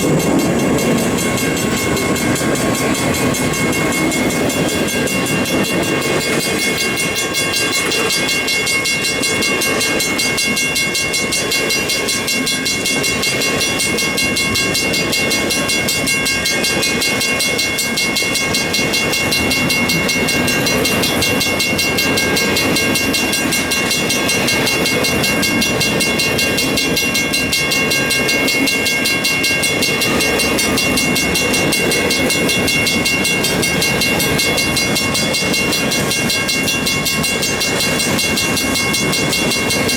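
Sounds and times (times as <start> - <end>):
train cars rumbling on rails: 0.0 - 39.9.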